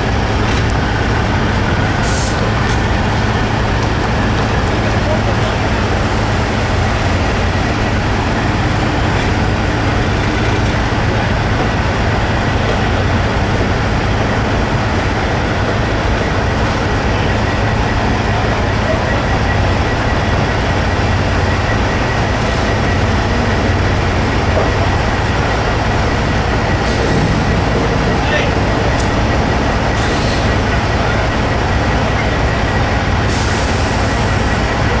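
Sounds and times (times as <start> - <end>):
diesel truck engine running: 0.0 - 35.0.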